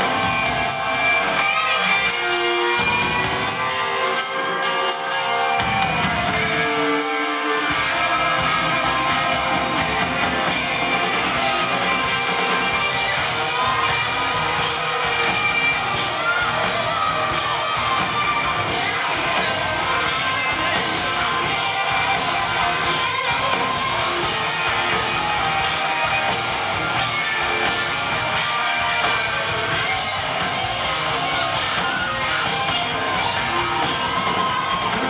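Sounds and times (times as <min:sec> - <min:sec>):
drums with steady beat: 0:00.0 - 0:35.0
electric guitar: 0:00.0 - 0:35.0.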